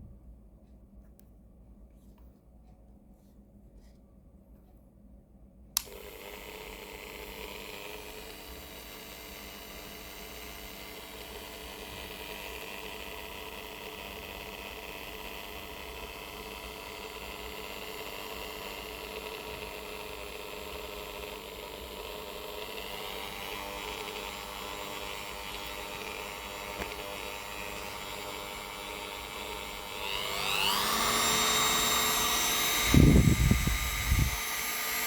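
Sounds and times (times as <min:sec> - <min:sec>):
rotary tool motor whining: 0:05.8 - 0:35.0.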